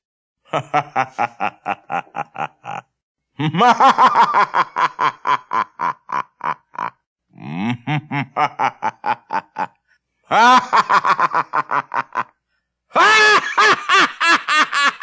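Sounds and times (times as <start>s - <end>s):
man doing spooky ghost laugh: 0.5s - 12.3s, 13.0s - 15.0s.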